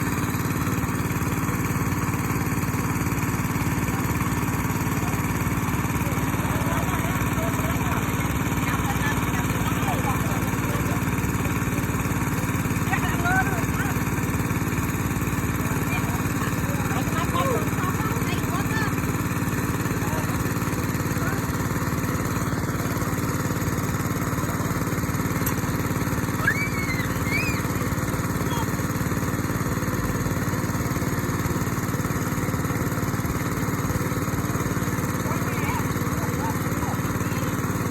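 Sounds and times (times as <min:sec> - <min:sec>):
small engine running steadily: 0:00.0 - 0:37.9.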